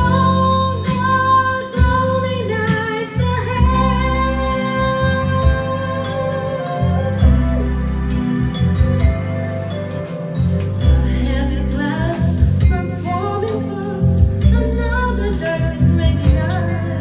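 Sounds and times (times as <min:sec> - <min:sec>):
backing track with bass line: 0:00.0 - 0:17.0
woman singing karaoke: 0:00.0 - 0:17.0.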